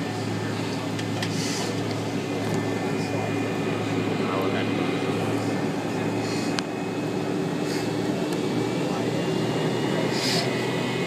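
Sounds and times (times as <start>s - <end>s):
jet engines idling hum: 0.0s - 11.0s.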